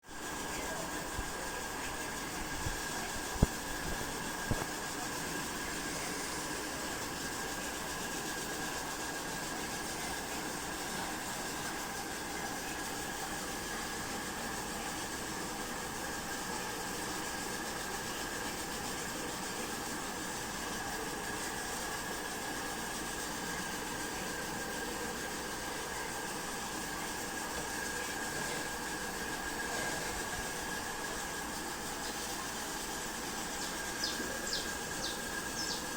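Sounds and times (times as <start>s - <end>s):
tv static hiss: 0.0s - 35.9s.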